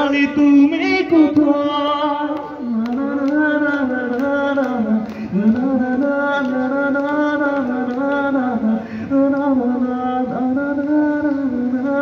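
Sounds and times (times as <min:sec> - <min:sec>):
man singing long note: 0:00.0 - 0:12.0.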